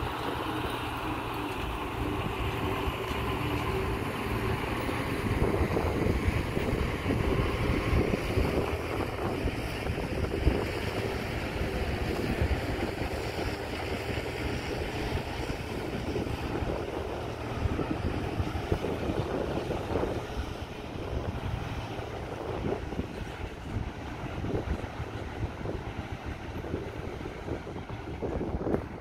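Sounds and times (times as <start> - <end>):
diesel engines running: 0.0 - 29.0
wind buffeting microphone: 0.0 - 29.0.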